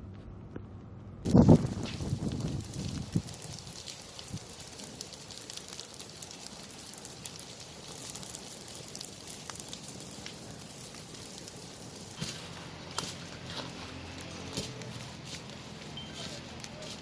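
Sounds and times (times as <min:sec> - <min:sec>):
fire crackling and popping: 0:00.4 - 0:17.0.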